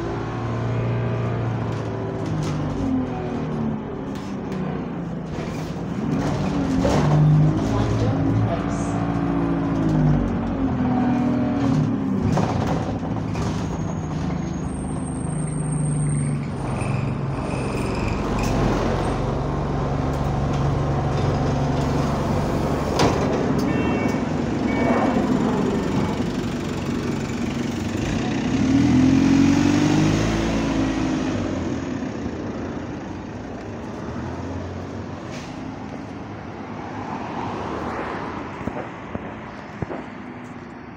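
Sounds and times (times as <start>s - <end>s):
bus engine accelerating: 0.0s - 40.9s.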